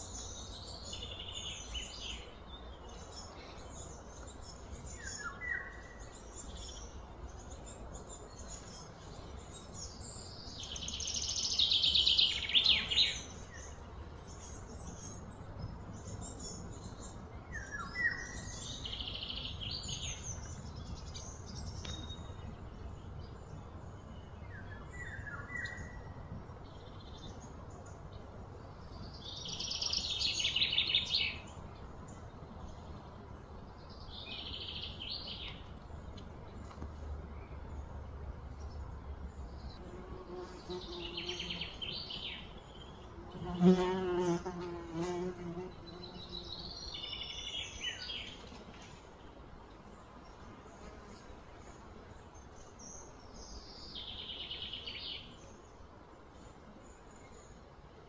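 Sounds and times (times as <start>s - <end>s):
birds chirping: 0.0s - 57.7s.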